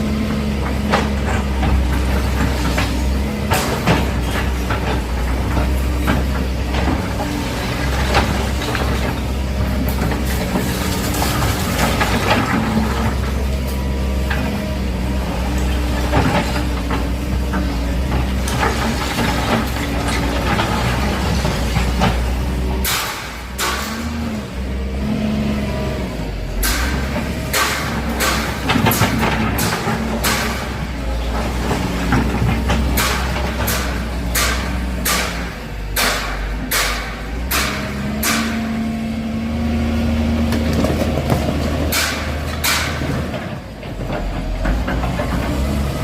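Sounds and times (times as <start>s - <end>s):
demolition knocks and crashes: 0.0s - 25.6s, 26.5s - 39.2s, 40.3s - 46.0s
excavator diesel engine: 0.0s - 46.0s.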